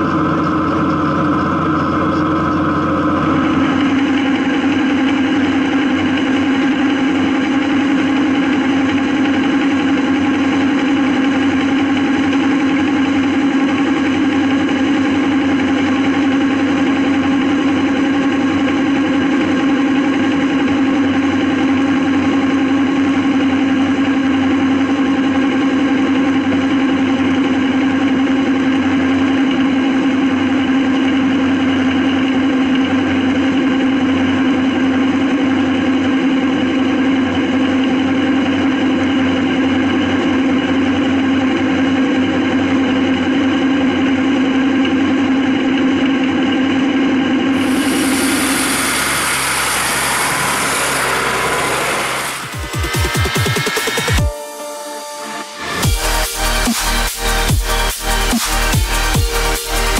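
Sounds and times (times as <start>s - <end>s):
implement rumble: 0.0s - 46.5s, 47.2s - 52.6s
tractor diesel engine running: 0.0s - 59.9s.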